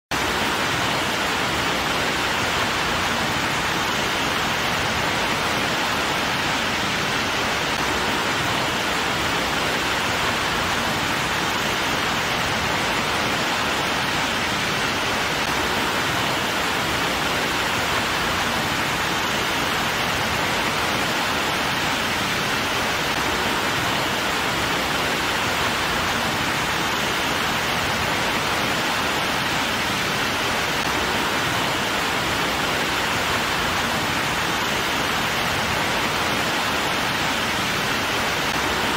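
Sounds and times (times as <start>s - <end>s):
waterfall rushing: 0.1s - 38.9s.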